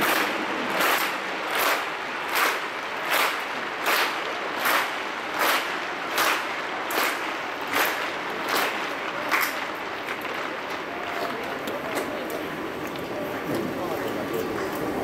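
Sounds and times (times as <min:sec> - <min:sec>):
crowd clapping in unison: 0:00.0 - 0:15.0
crowd noise hum: 0:00.0 - 0:15.0.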